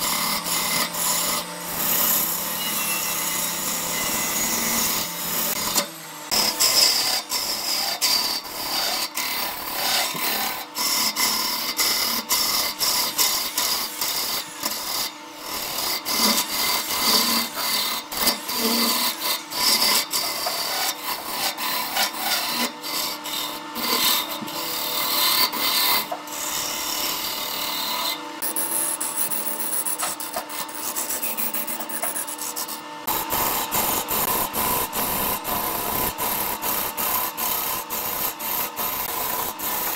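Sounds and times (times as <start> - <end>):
lathe tool scraping wood: 0.0 - 39.9.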